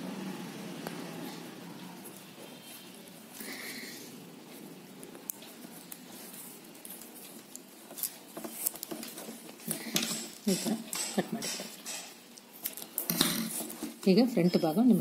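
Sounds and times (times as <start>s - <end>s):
plastic wire rustling: 1.3s - 14.9s.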